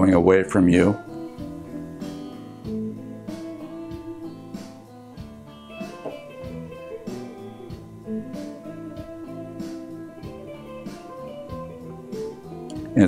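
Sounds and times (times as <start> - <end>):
plucked guitar music: 0.6 - 13.0.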